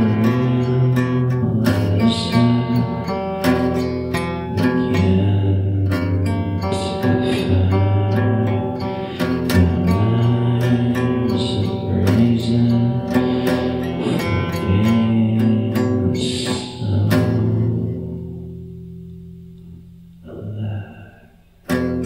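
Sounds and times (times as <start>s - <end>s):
low voice singing: 0.0s - 18.2s, 20.2s - 21.4s
strummed acoustic guitar: 0.0s - 22.0s.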